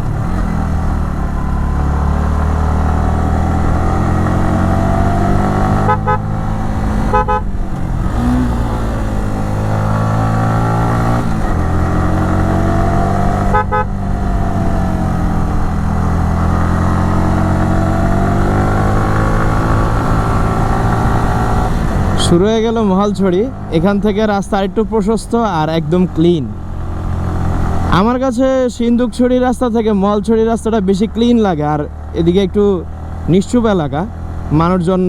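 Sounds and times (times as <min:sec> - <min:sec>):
motorcycle engine and exhaust: 0:00.0 - 0:35.0.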